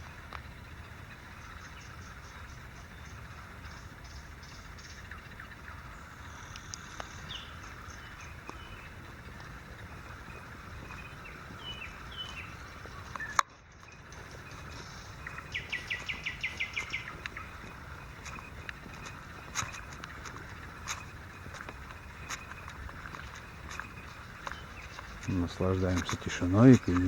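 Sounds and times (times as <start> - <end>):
birds chirping and calling: 0.0 - 27.0
low rumble: 0.0 - 27.0
rapid bird trill: 0.0 - 27.0
steady background hum: 0.0 - 27.0.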